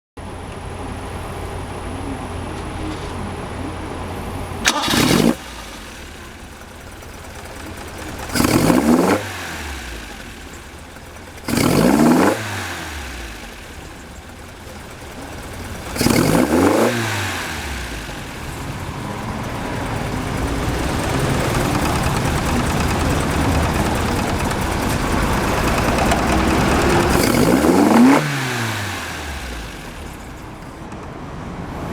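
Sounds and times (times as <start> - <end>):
car engine idling and revving: 0.2 - 31.9.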